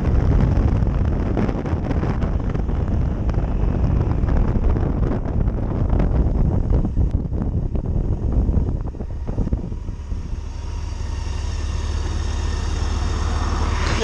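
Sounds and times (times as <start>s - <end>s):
motorcycle slowing to a stop: 0.0s - 14.0s
wind and road rumble: 0.0s - 14.0s
motorcycle engine idling: 2.3s - 13.6s.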